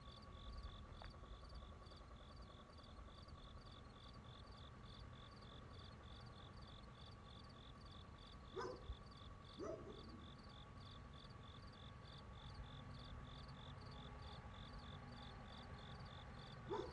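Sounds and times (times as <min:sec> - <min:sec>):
faint steady whirr: 0:00.0 - 0:16.9
insects chirping: 0:00.1 - 0:16.9.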